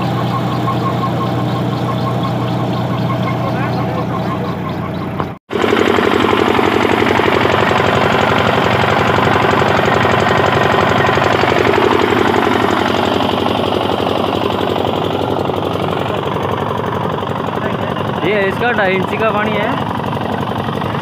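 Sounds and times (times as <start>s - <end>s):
diesel engine knocking: 0.0s - 21.0s.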